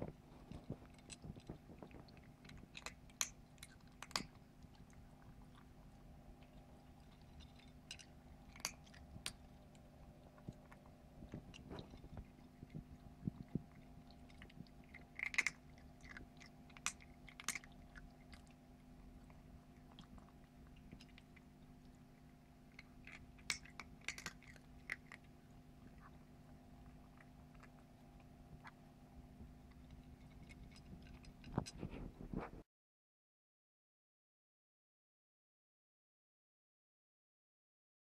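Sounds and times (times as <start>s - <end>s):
kitten crunching dry kibble: 0.0s - 32.6s.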